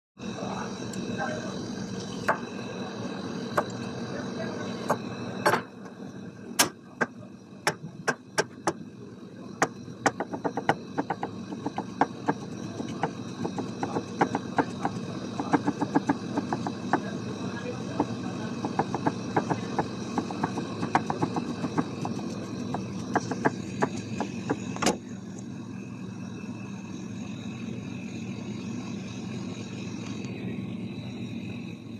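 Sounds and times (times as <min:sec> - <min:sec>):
background hum: 0:00.2 - 0:31.9.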